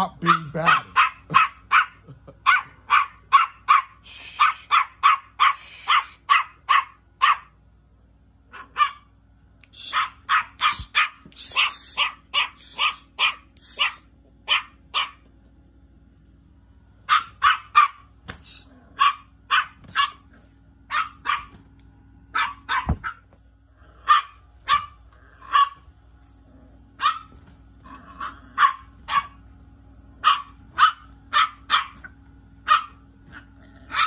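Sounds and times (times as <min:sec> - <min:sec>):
small dog barking: 0:00.2 - 0:07.6, 0:08.5 - 0:09.1, 0:09.8 - 0:15.2, 0:17.0 - 0:20.3, 0:20.9 - 0:21.7, 0:22.3 - 0:25.9, 0:27.0 - 0:29.4, 0:30.2 - 0:34.0.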